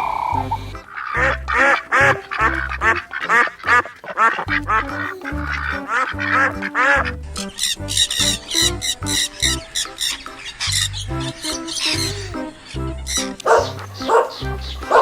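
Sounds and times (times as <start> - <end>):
background music with bass line: 0.0 - 3.9, 4.5 - 15.0
duck quacking: 0.0 - 15.0.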